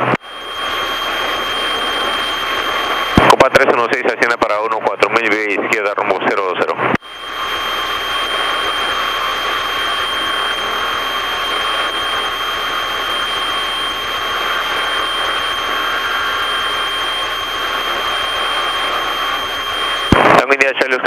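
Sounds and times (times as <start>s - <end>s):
constant high whine: 0.0s - 21.0s.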